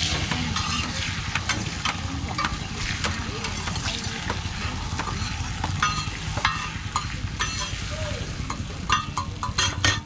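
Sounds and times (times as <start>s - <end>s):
metal spatula scraping a pan: 0.0s - 1.8s, 2.5s - 7.9s, 9.0s - 10.0s
flatbread sizzling on a griddle: 0.0s - 10.0s.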